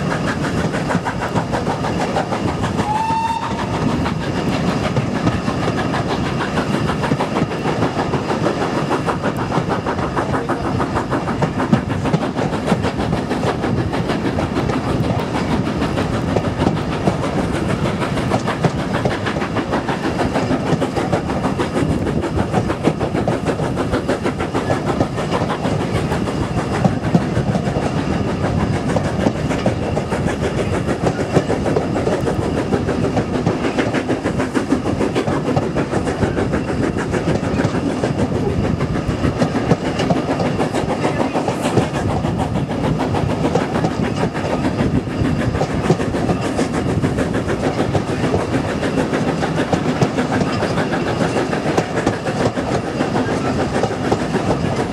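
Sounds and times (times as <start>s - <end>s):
steam locomotive exhaust beats: 0.0s - 54.9s
carriage wheels clattering on rails: 3.6s - 54.9s.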